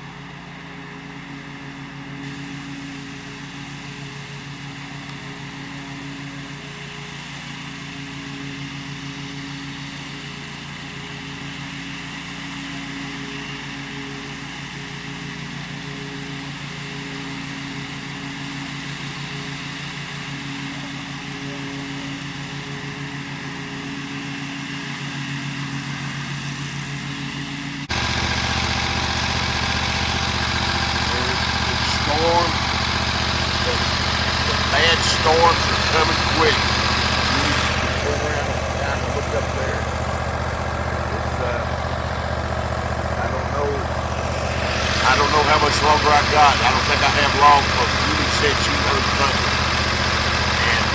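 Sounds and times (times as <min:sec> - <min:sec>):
mower engine running: 0:00.0 - 0:50.9.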